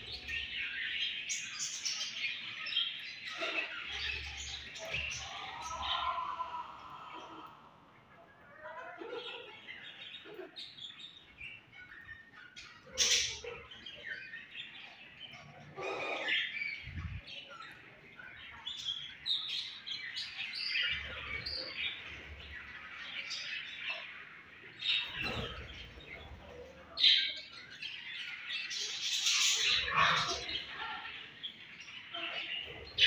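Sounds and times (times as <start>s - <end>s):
budgerigars chattering and chirping: 0.0s - 5.8s, 8.8s - 33.0s.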